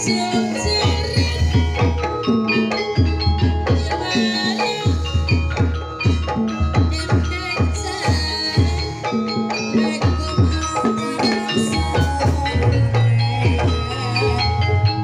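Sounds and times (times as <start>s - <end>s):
ringing metallophone notes: 0.0s - 15.0s.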